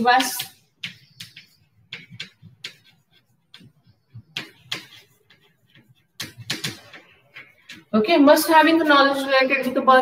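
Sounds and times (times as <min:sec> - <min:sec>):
chalk tapping and scratching: 0:00.0 - 0:09.3.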